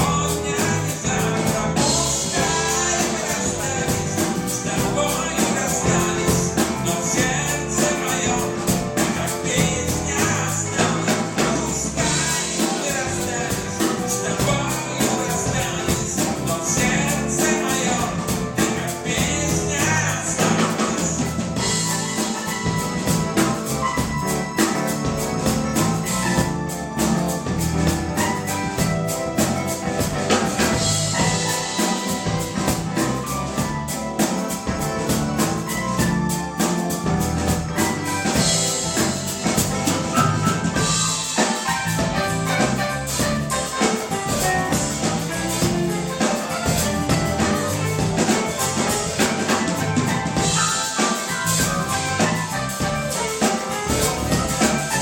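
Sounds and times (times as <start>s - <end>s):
drum kit beat: 0.0s - 55.0s
live pop band playing: 0.0s - 55.0s.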